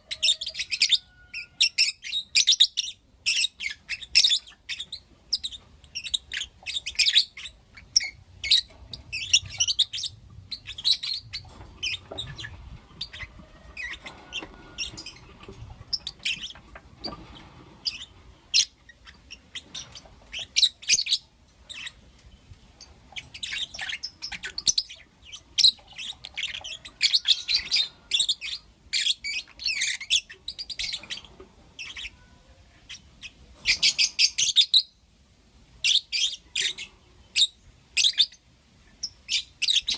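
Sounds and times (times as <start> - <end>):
lovebirds chirping: 0.0 - 35.1, 35.7 - 39.9.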